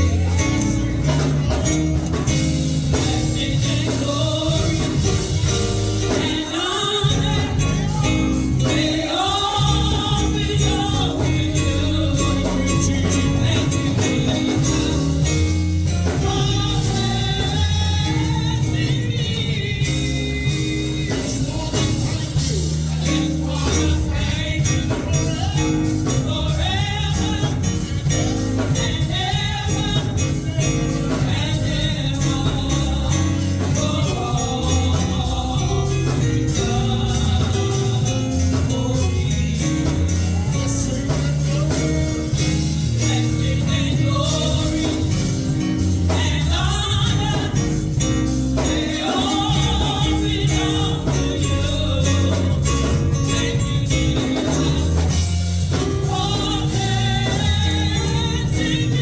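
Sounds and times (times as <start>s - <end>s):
gospel singing over a band: 0.0s - 59.0s.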